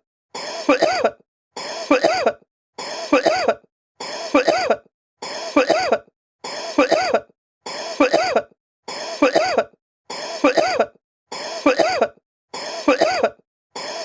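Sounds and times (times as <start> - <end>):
person coughing: 0.4 - 14.0.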